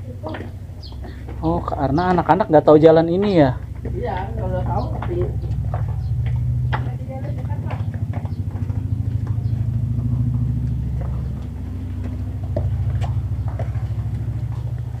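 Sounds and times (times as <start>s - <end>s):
footsteps on a path: 0.0s - 15.0s
pulsing engine-like hum: 0.0s - 15.0s.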